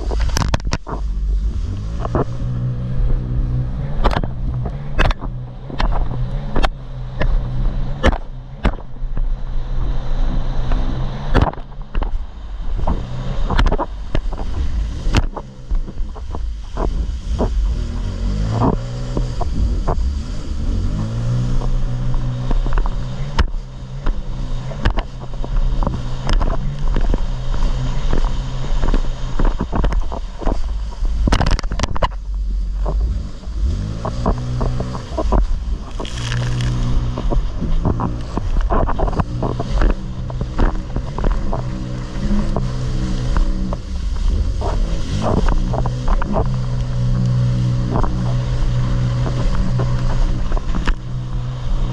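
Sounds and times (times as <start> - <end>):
jet ski engine accelerating: 0.0 - 51.9.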